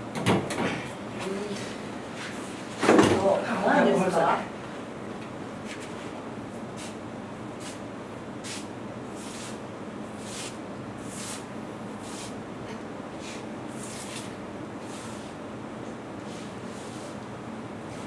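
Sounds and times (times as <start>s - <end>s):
steady room hiss: 0.0s - 18.0s.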